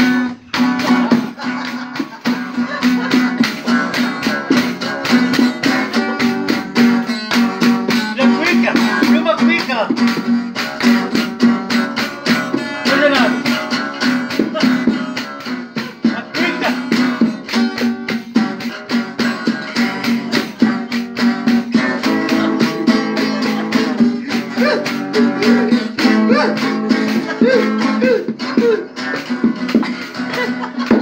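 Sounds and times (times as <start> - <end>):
nylon-string guitar strummed: 0.0 - 31.0
person singing: 2.4 - 9.5, 10.6 - 30.9.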